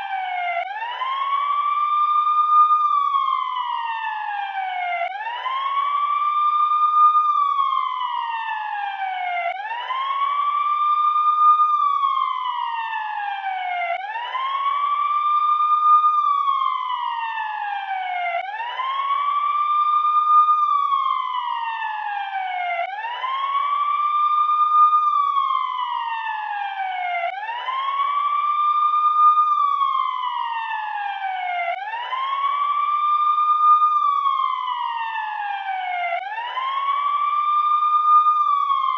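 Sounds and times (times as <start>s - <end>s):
vehicle siren wailing: 0.0s - 38.9s.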